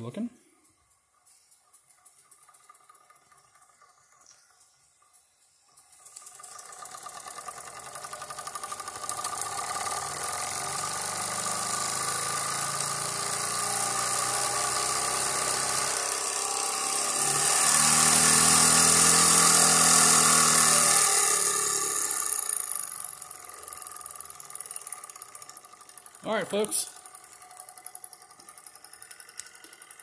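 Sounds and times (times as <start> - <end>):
steam engine chuffing: 6.0 - 30.0.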